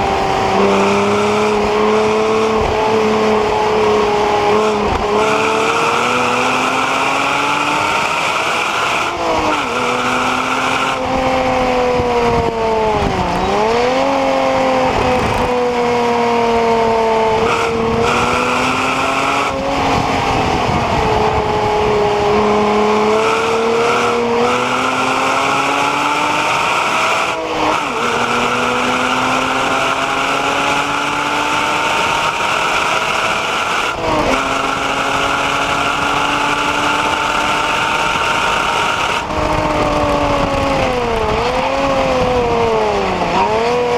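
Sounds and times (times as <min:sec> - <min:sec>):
car engine at full load: 0:00.0 - 0:43.9.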